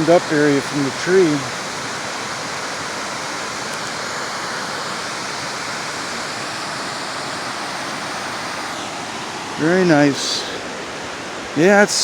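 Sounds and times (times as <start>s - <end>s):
water rushing down a waterfall: 0.0s - 12.0s.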